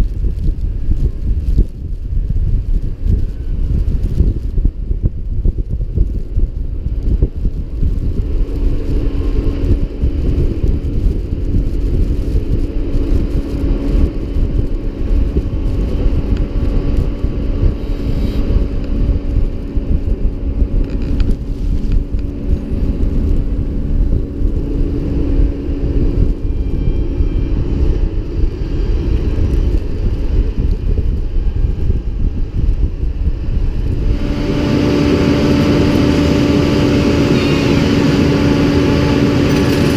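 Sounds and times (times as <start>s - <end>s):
tractor engine running: 0.0s - 39.9s
wind buffeting microphone: 0.0s - 39.9s.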